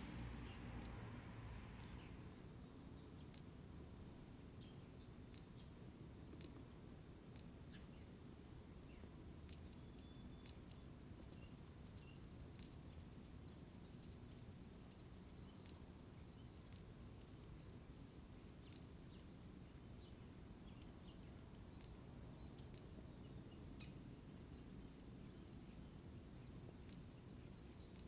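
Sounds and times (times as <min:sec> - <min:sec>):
low steady rumble: 0:00.0 - 0:28.0
small birds chipping and ticking: 0:00.0 - 0:28.0.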